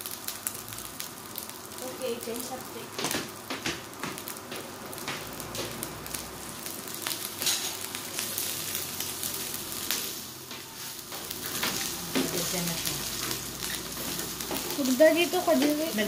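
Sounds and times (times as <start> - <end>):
food sizzling on grill: 0.0 - 16.0.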